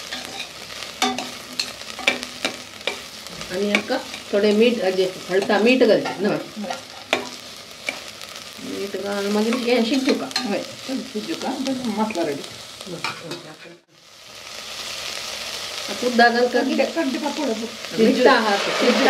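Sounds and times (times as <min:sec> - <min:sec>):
steady hiss: 0:00.0 - 0:13.1, 0:14.0 - 0:19.0.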